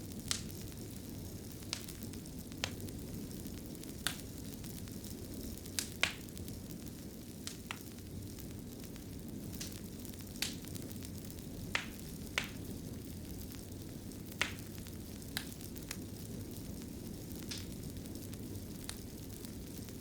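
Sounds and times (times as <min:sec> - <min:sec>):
burning logs rumble and hiss: 0:00.0 - 0:20.0
fire popping and snapping: 0:00.0 - 0:20.0.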